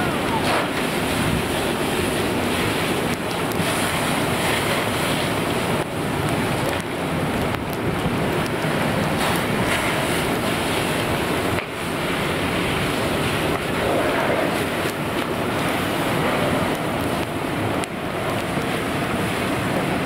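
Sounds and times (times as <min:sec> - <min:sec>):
fire hose spraying water: 0:00.0 - 0:20.0.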